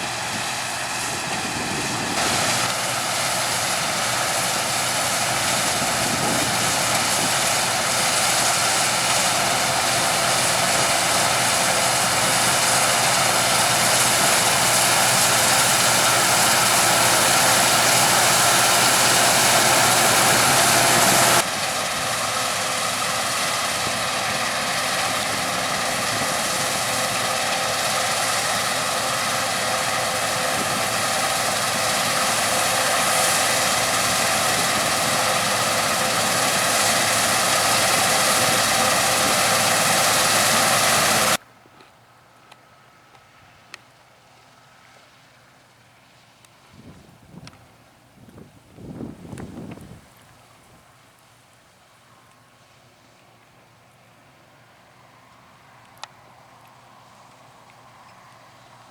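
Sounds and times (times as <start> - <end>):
harvester engine and fan drone: 0.0 - 58.9.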